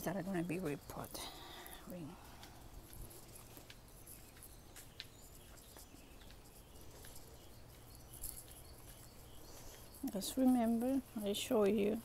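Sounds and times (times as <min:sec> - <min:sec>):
scattered ticks: 0:00.0 - 0:12.0.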